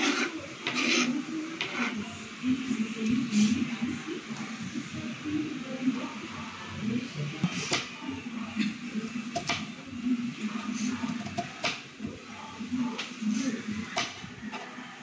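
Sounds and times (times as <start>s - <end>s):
murmur of voices: 0.0s - 15.0s.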